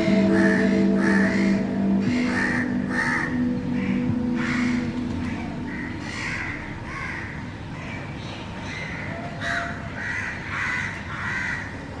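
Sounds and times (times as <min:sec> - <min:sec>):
crows cawing harshly: 0:00.0 - 0:11.8.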